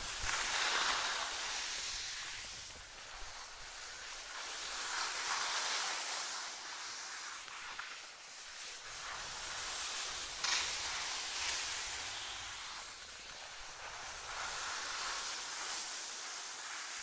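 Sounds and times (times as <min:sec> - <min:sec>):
skis scraping over snow: 0:00.0 - 0:17.0.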